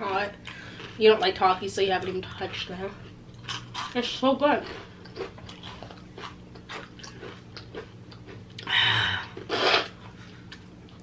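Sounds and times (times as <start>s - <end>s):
person chewing crunchy chips: 0.4s - 1.0s, 2.0s - 4.0s, 4.6s - 11.0s.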